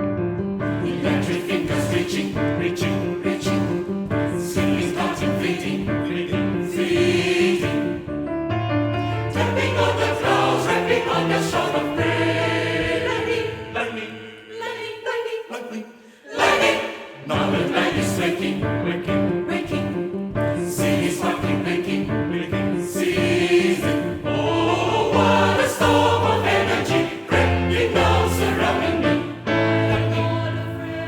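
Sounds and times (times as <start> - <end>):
piano accompaniment: 0.0 - 14.2, 16.4 - 31.0
choir singing: 0.6 - 8.1, 9.3 - 31.0.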